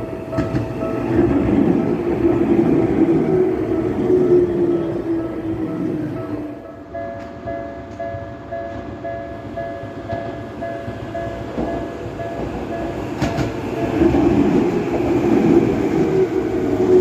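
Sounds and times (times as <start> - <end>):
train passing: 0.0 - 17.0.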